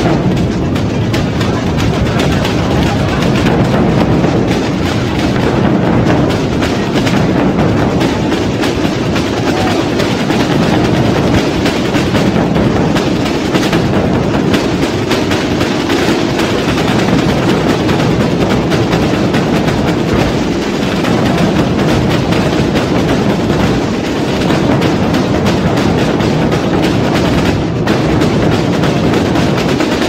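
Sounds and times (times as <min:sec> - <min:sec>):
drum corps playing: 0:00.0 - 0:30.0.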